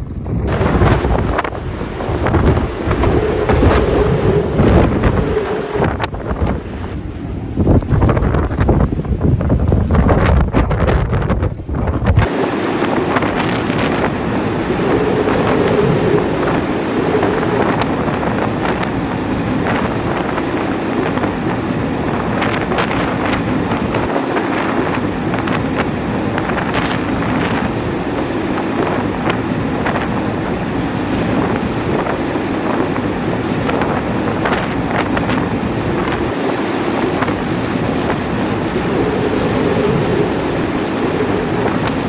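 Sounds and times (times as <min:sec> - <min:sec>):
wind blowing across microphone: 0:00.0 - 0:42.0.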